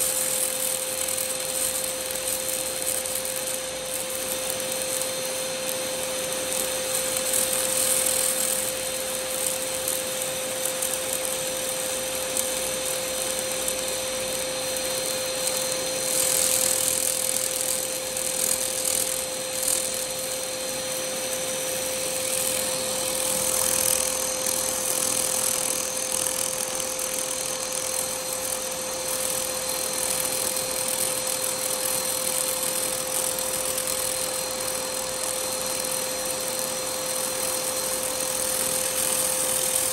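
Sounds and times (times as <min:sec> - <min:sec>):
hiss: 0:00.0 - 0:39.9
laser cleaner buzzing: 0:00.0 - 0:39.9.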